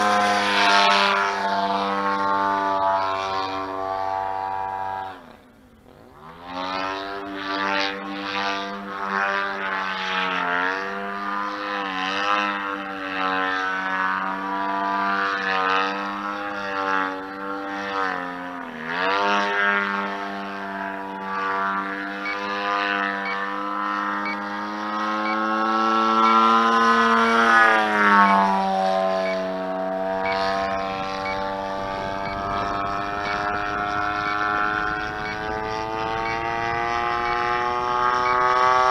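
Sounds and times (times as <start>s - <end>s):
model plane engine flying overhead: 0.0s - 38.9s.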